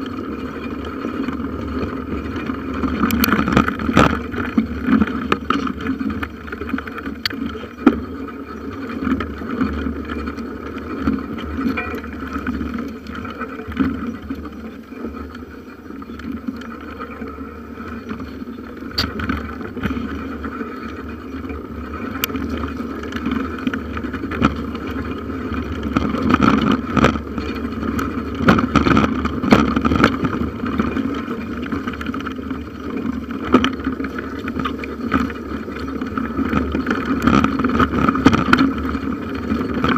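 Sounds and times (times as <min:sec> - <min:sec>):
bicycle frame rumble and rattle: 0:00.0 - 0:39.9
wheels knocking over bumps: 0:00.0 - 0:39.9.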